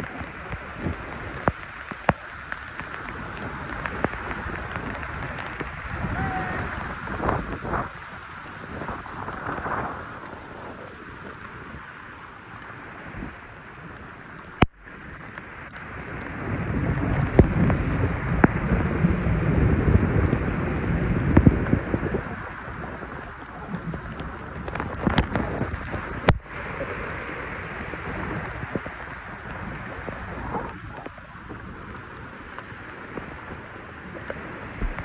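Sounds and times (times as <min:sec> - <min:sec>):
tyres splashing through floodwater: 0:00.0 - 0:35.0
wind buffeting microphone: 0:00.0 - 0:35.0.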